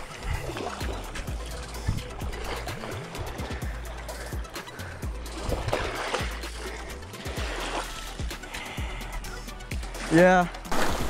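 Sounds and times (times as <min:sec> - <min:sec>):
music with deep drum beat: 0:00.0 - 0:11.0.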